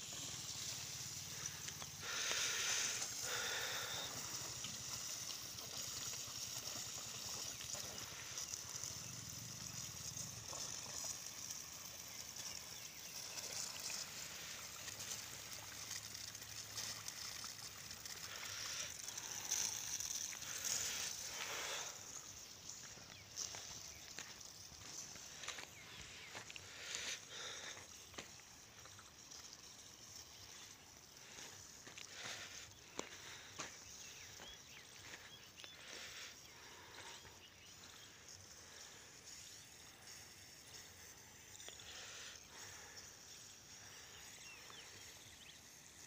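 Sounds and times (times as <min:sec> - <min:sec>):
irrigation hoses spraying water: 0:00.0 - 0:46.0.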